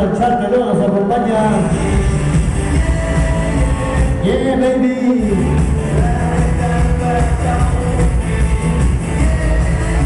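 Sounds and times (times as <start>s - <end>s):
bass-heavy music over sound system: 0.0s - 10.0s.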